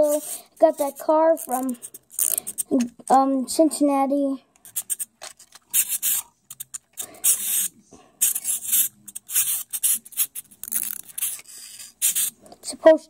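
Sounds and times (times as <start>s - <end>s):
plastic rubbing against plastic: 0.0s - 3.0s, 4.6s - 12.4s.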